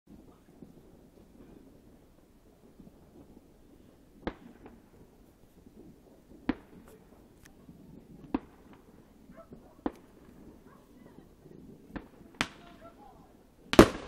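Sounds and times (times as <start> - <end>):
distant firework bangs: 0.1 - 14.0
faint firework pops: 0.1 - 14.0.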